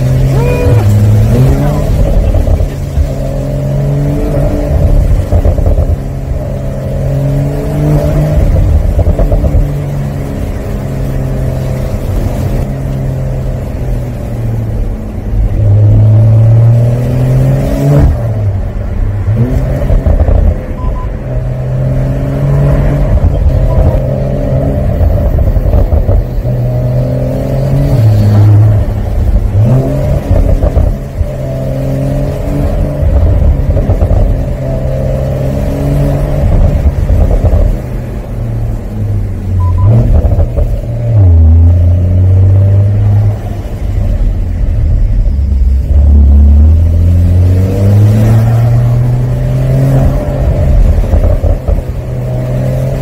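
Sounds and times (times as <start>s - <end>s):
car engine and exhaust accelerating: 0.0s - 53.0s
road and wind rumble: 0.0s - 53.0s.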